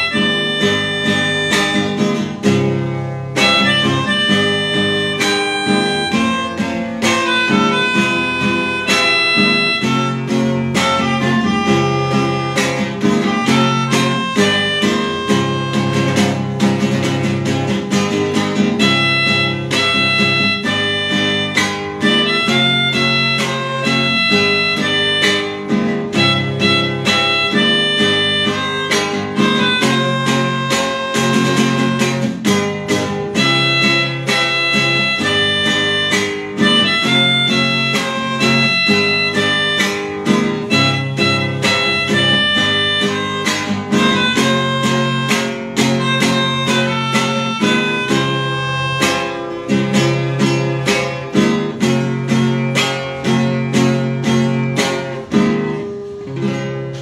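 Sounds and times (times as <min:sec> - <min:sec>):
melodica playing melody: 0:00.0 - 0:56.7
acoustic guitar strummed: 0:00.0 - 0:57.0.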